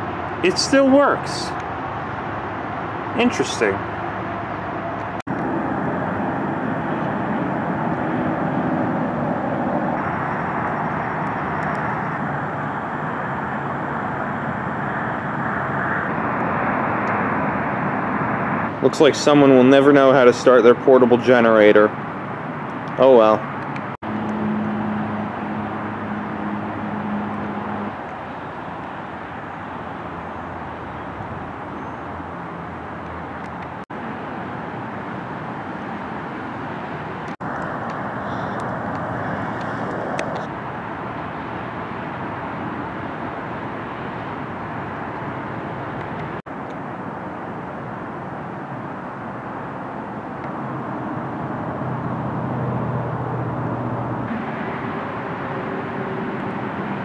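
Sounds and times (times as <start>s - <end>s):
outdoor rumble and hiss: 0.0s - 57.0s.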